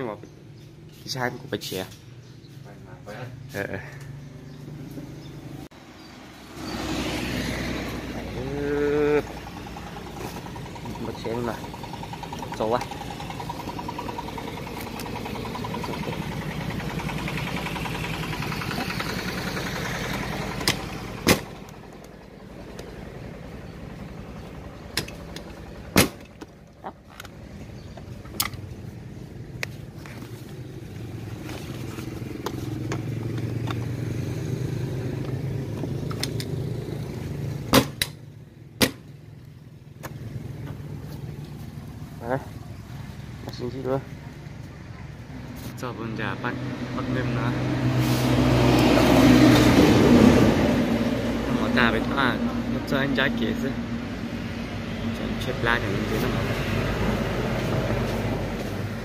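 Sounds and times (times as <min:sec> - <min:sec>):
vehicle engine hum: 0:00.2 - 0:59.0.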